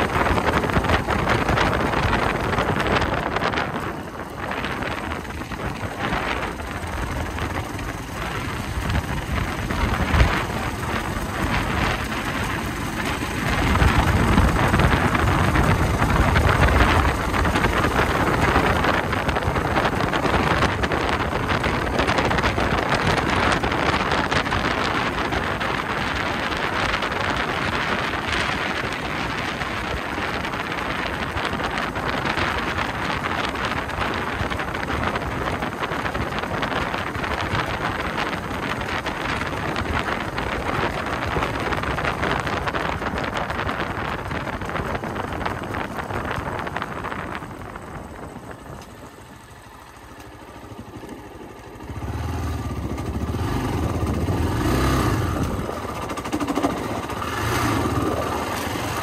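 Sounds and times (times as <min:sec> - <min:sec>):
motorcycle engine riding: 0:00.0 - 0:59.0
wind noise on microphone: 0:00.0 - 0:59.0.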